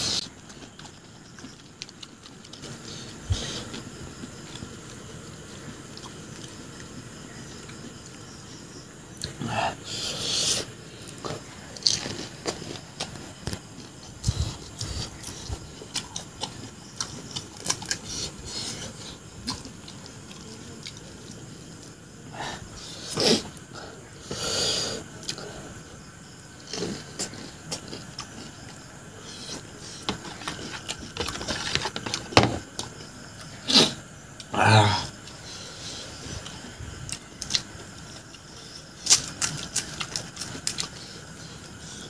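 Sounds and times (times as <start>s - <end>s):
chewing and crunching: 0.0s - 9.5s, 10.6s - 23.8s, 25.0s - 33.7s, 35.1s - 42.0s.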